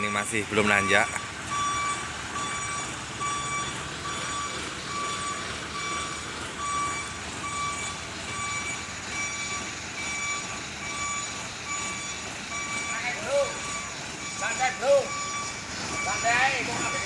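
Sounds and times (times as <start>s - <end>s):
engine and traffic noise: 0.0s - 17.0s
reversing alarm beeping: 0.0s - 17.0s.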